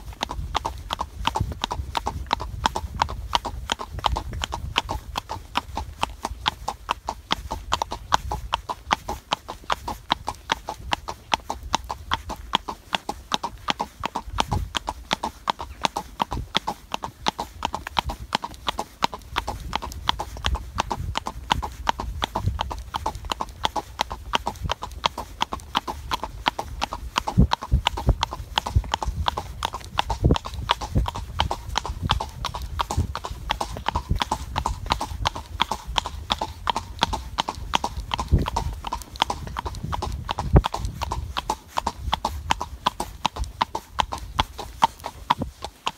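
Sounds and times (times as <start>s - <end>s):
horse hooves on paved road: 0.0s - 45.9s.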